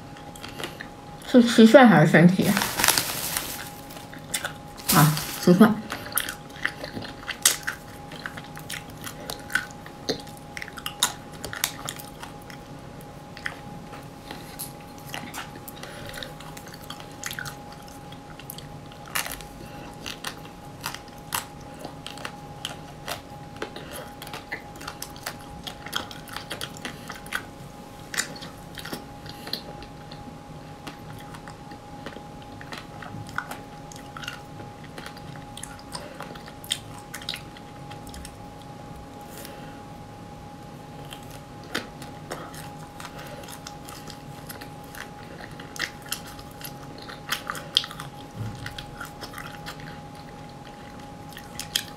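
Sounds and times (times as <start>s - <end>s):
soft chewing: 0.0s - 1.3s, 2.5s - 40.0s, 40.6s - 51.9s
faint steady hum: 0.0s - 51.9s.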